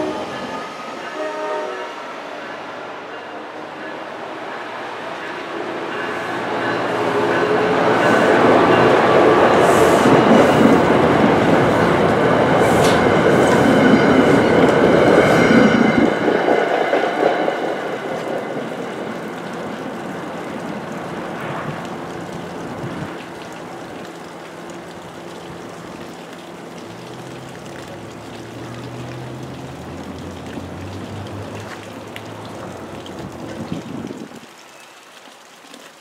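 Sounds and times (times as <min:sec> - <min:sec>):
train rumbling: 0:00.0 - 0:31.6.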